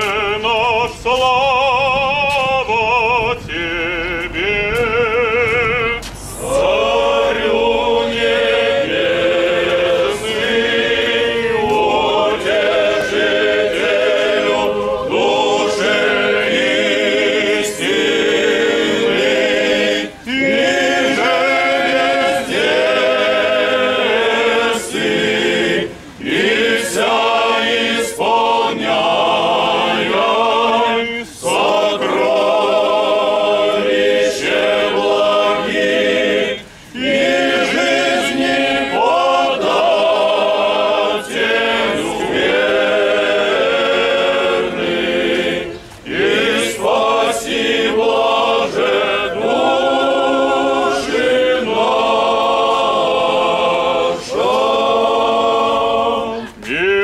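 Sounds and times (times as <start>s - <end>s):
choir chanting a cappella: 0.0s - 57.0s.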